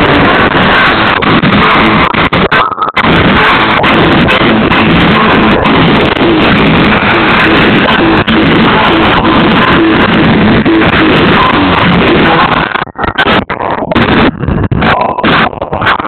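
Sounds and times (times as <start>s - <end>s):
loud music through car audio: 0.0s - 16.0s.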